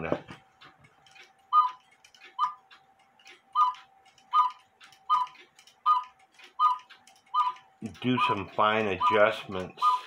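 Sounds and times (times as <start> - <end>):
mechanical clock ticking: 0.0 - 10.0.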